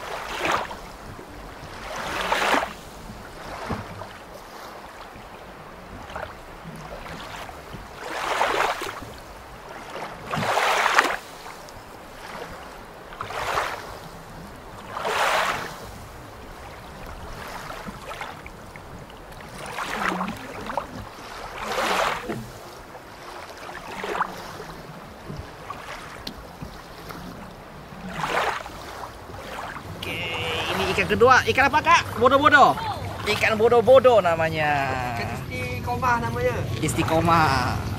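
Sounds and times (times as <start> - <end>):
water sloshing against camera: 0.0 - 37.9.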